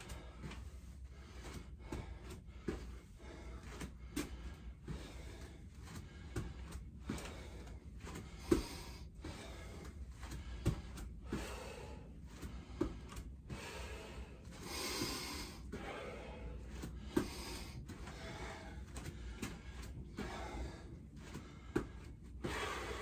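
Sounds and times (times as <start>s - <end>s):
man breathing hard: 0.0s - 23.0s.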